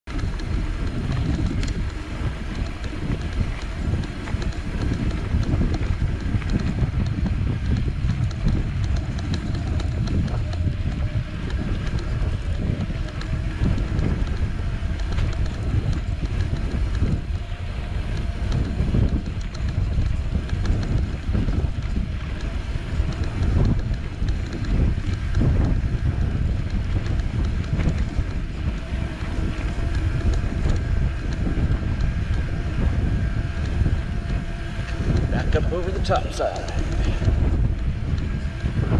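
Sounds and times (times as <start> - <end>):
drivetrain whine: 0.0 - 38.9
off-road vehicle running: 0.0 - 38.9
wind buffeting microphone: 0.0 - 38.9.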